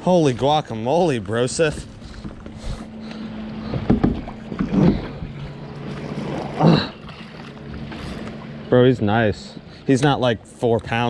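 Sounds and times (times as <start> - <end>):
water noise: 0.0 - 11.0
wind: 0.0 - 11.0.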